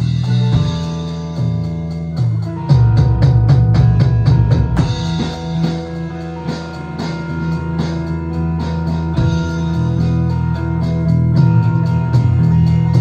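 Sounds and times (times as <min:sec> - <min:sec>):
drums hitting hard: 0:00.0 - 0:13.0
rock band playing: 0:00.0 - 0:13.0.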